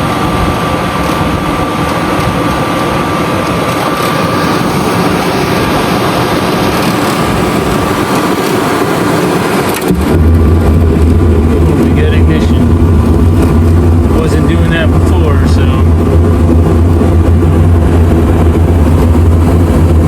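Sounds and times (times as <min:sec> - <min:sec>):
furnace blower fan running: 0:00.0 - 0:20.0.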